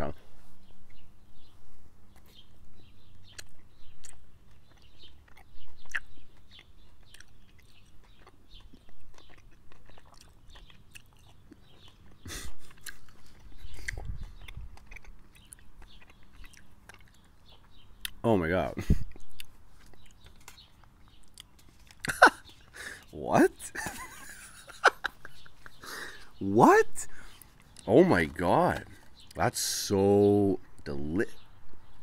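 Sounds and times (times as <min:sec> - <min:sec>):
chewing sticky candy: 0:02.1 - 0:18.2, 0:18.8 - 0:26.4, 0:27.1 - 0:29.7.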